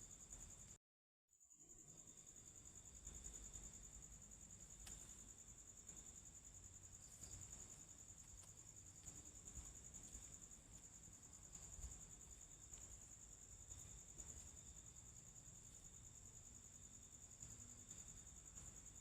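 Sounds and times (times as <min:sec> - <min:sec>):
crickets trilling: 0:01.4 - 0:19.0.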